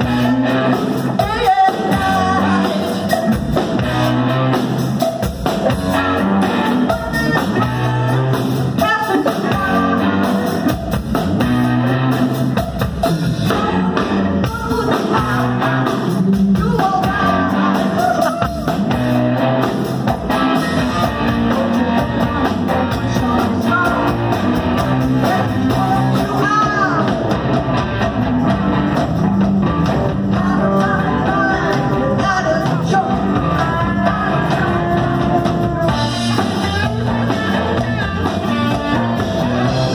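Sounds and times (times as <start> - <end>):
person singing: 0.0 - 3.7, 5.7 - 10.8, 13.2 - 27.4, 30.1 - 39.9
drum kit: 0.0 - 39.9
electric guitars: 0.0 - 39.9.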